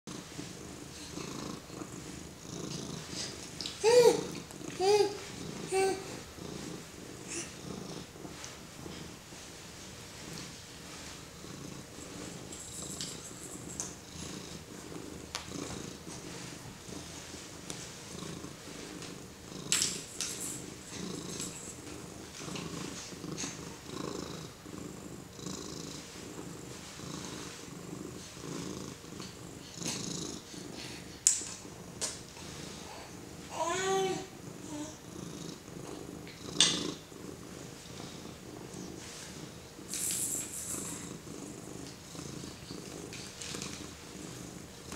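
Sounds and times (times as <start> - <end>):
cat purring: 0.1 - 44.9.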